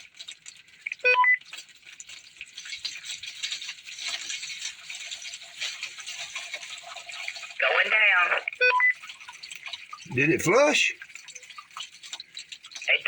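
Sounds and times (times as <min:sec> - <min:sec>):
water hissing and trickling in toilet: 0:00.0 - 0:13.0.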